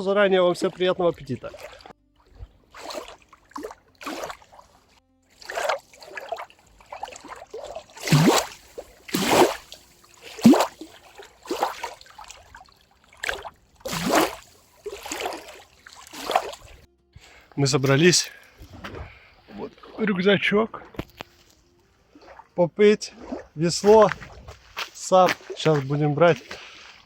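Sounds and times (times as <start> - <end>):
low water plunk: 0.0 - 25.9
water splashing and sloshing: 0.0 - 27.0.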